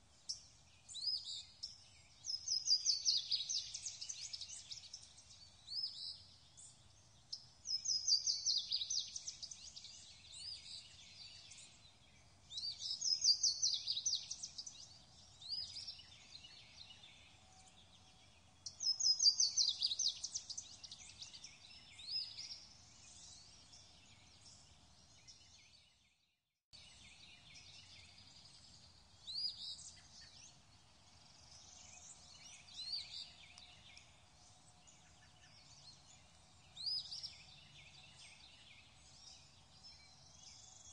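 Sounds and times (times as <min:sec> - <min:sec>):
faint bird chirps: 0:00.0 - 0:40.9.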